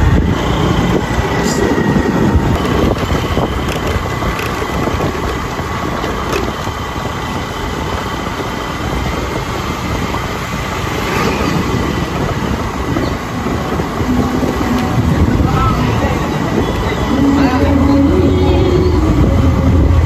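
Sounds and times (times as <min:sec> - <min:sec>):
vehicle engine rumble: 0:00.0 - 0:20.0
wind noise: 0:00.0 - 0:20.0.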